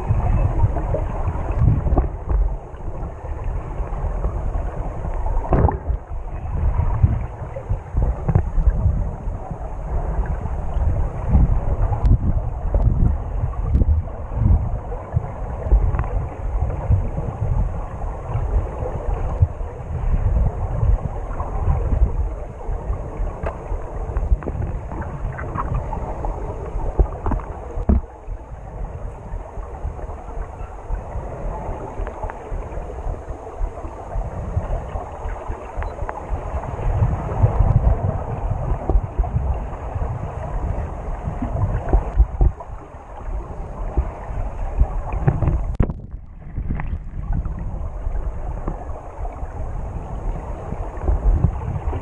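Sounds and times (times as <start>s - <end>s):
underwater water rumble: 0.0s - 52.0s.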